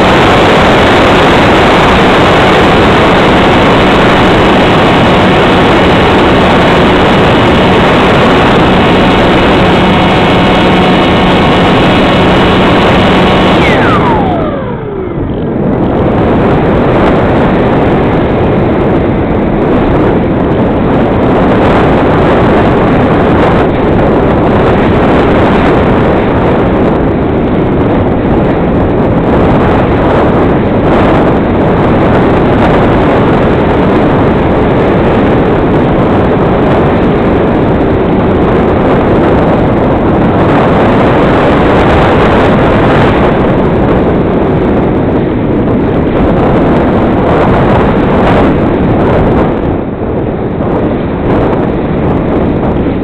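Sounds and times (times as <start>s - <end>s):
model airplane motor and propeller: 0.0s - 49.8s
wind rush on microphone: 0.0s - 53.0s.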